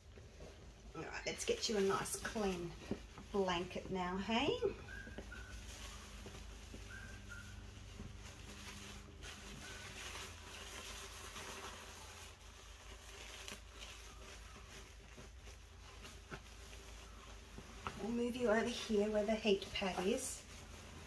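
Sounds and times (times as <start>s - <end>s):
plastic pad and blanket rustling: 0.0s - 21.0s.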